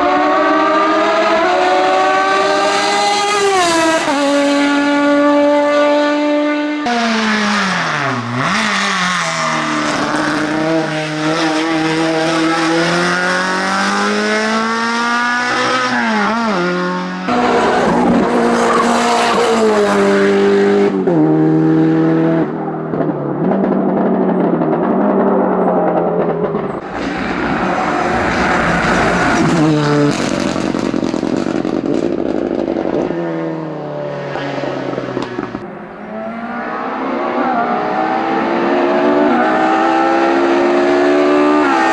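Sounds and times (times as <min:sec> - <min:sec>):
race car engines at full throttle: 0:00.0 - 0:41.9.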